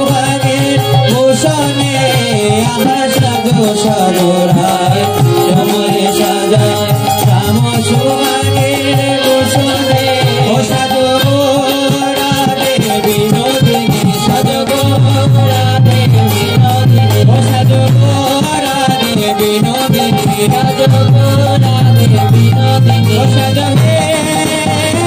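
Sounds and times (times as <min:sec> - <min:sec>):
hand drum steady rhythm: 0:00.0 - 0:25.0
harmonium holding chords: 0:00.0 - 0:25.0.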